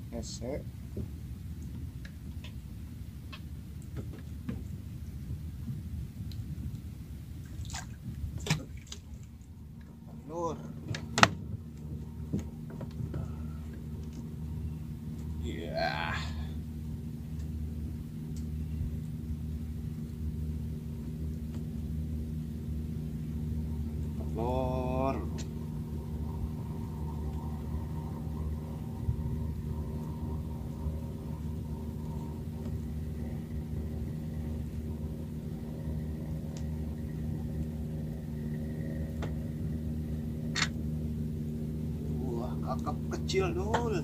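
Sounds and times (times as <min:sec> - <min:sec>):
boat engine idling: 0:00.0 - 0:44.0.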